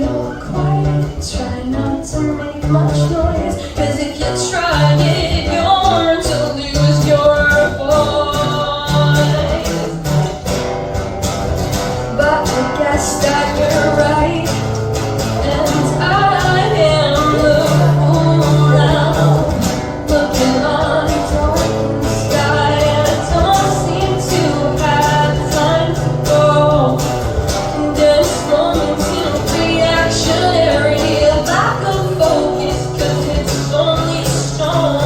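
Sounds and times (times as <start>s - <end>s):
person singing: 0.0s - 10.7s, 12.0s - 35.0s
guitar: 0.0s - 35.0s.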